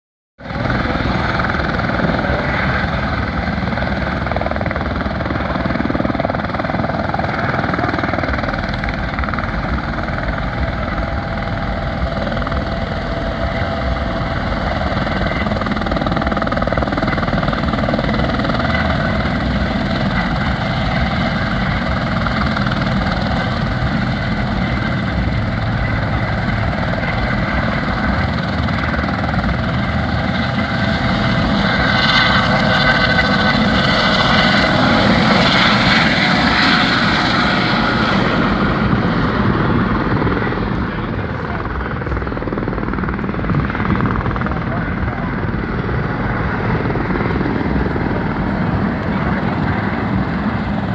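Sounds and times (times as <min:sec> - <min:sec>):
helicopter engine and rotor: 0:00.4 - 0:50.9.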